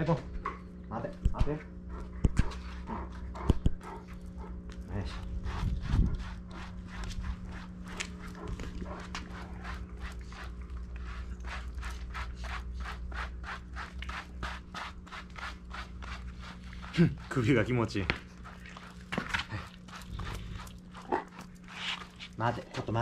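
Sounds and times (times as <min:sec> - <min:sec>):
dog panting: 0:01.8 - 0:22.7.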